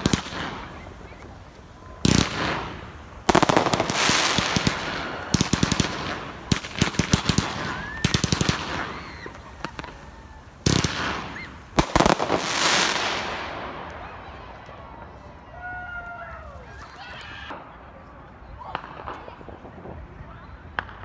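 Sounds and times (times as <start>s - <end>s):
fireworks cracking and banging: 0.0s - 21.0s.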